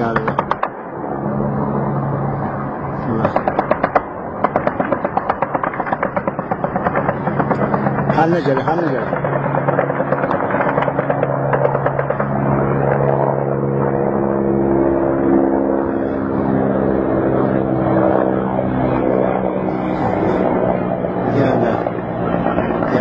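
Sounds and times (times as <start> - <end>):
helicopter rotors droning: 0.0 - 23.0.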